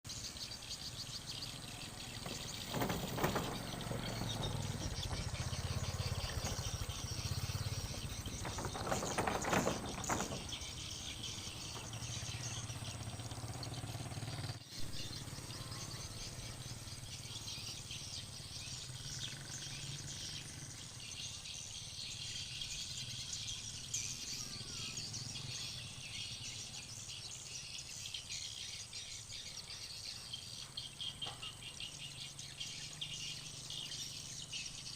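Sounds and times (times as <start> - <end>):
swiftlets chirping and twittering: 0.1 - 34.9.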